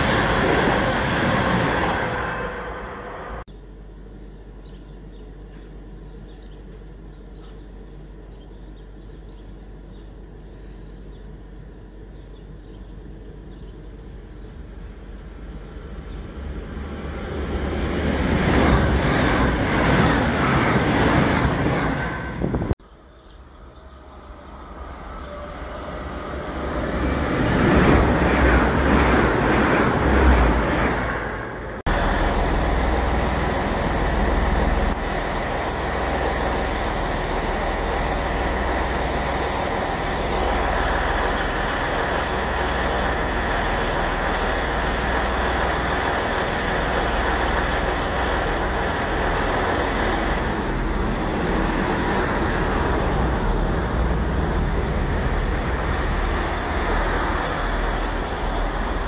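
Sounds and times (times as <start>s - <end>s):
train rushing past: 0.0s - 3.5s, 13.2s - 22.8s, 23.6s - 59.0s
train running noise: 0.0s - 22.8s, 23.4s - 59.0s.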